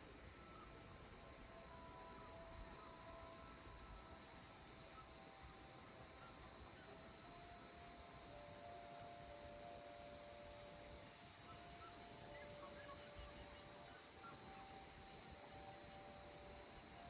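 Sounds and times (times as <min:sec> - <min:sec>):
high-pitched insect trill: 0:00.0 - 0:17.0
long low insect tones: 0:00.0 - 0:17.0.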